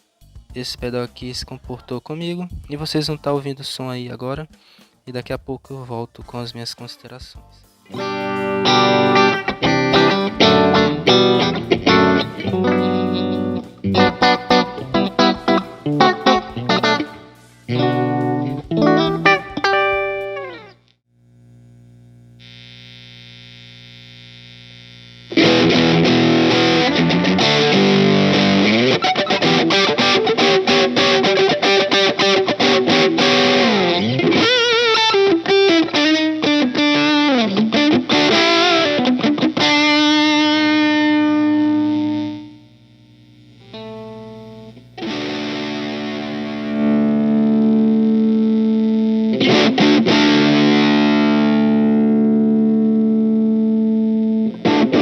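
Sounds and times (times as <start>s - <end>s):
distorted electric guitar: 4.4s - 55.0s.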